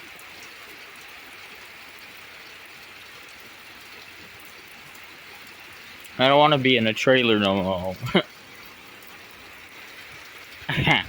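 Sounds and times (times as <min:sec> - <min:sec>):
light rain hissing: 0:00.0 - 0:11.0
raindrop ticks: 0:00.1 - 0:11.0.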